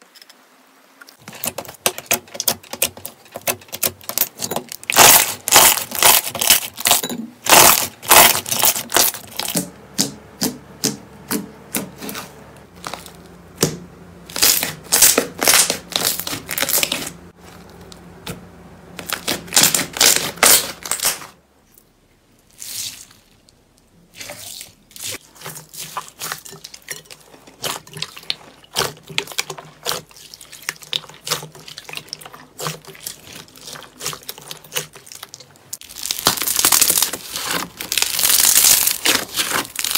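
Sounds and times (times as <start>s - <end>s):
hands squishing slime: 1.2s - 17.9s, 19.0s - 21.3s, 24.1s - 39.9s.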